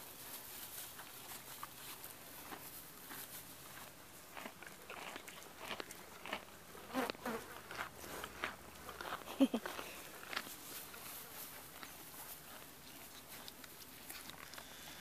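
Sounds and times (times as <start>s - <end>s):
horses chewing hay: 0.0s - 15.0s.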